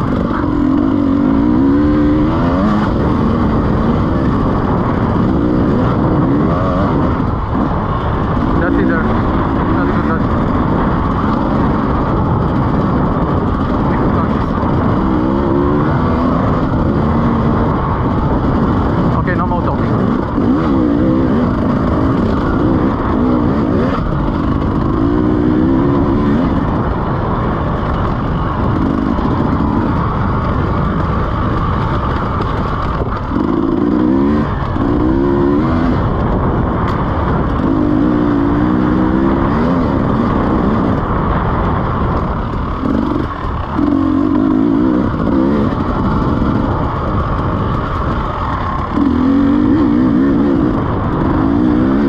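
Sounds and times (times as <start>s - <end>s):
two-stroke motorcycle engine revving: 0.0s - 52.0s.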